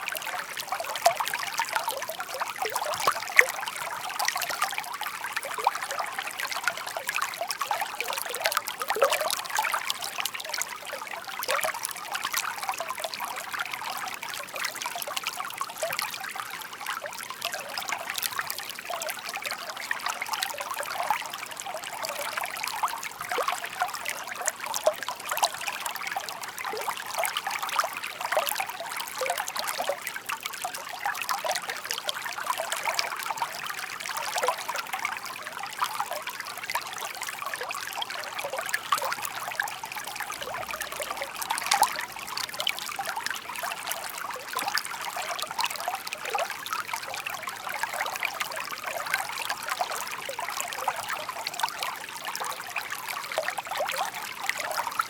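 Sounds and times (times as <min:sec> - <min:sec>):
stream burbling over stones: 0:00.0 - 0:55.0.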